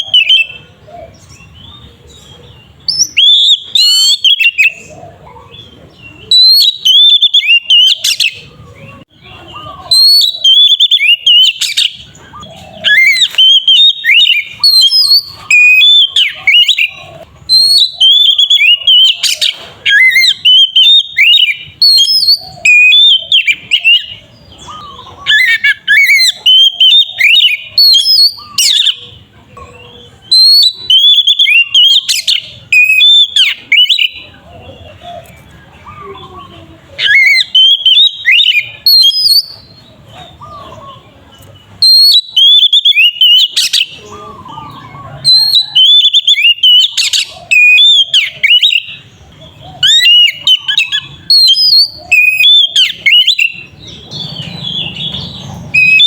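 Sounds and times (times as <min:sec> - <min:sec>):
bird singing whistled phrases: 0:00.0 - 0:29.2, 0:30.2 - 0:34.3, 0:36.0 - 0:41.0, 0:41.8 - 0:49.2, 0:49.8 - 0:56.0.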